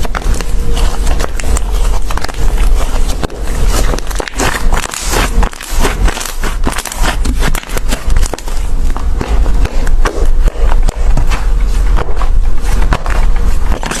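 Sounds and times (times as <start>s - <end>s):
crisp clicks and crackles: 0.0s - 14.0s.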